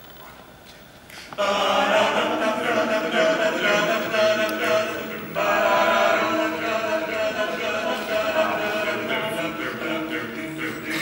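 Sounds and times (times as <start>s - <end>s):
male quartet singing a cappella: 1.4s - 11.0s.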